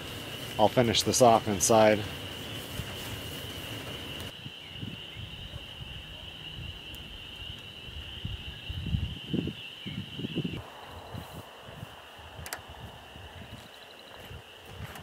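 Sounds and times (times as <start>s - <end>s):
low rumbles: 0.0s - 15.0s.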